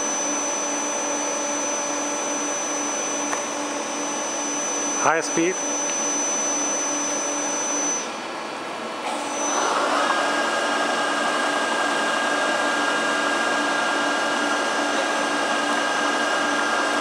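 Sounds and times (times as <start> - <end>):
milling machine whine: 0.0 - 17.0.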